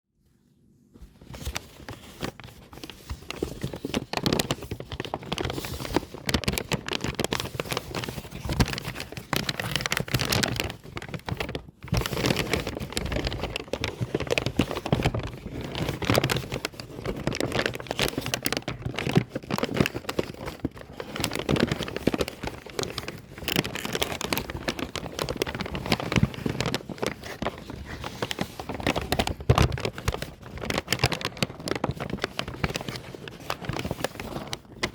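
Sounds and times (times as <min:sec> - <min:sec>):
paper bag being crumpled: 0:01.1 - 0:34.9.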